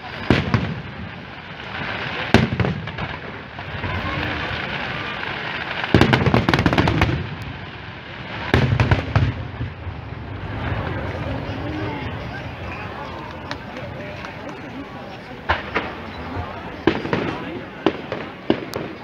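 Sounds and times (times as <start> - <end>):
firework bangs: 0.0 - 19.0
firework crackling: 0.0 - 19.0.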